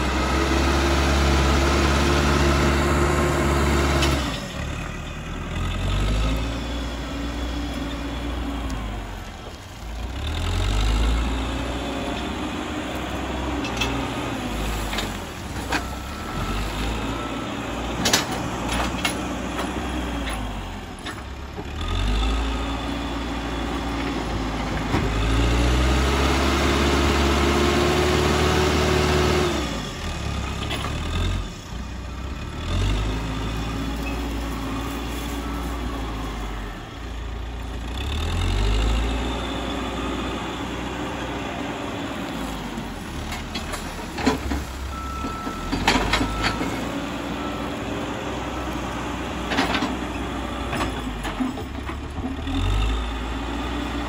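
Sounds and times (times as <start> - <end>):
backhoe diesel engine revving: 0.0 - 54.0.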